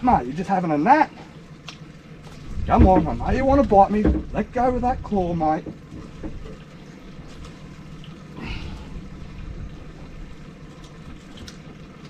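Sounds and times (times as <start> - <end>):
faint water splashing: 0.0 - 12.0
low steady hum: 0.0 - 12.0.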